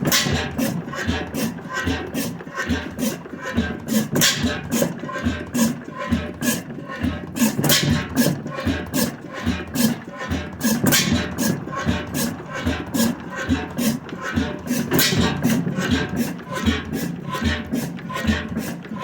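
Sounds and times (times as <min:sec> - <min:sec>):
gas engine clicking and puffing: 0:00.0 - 0:19.0.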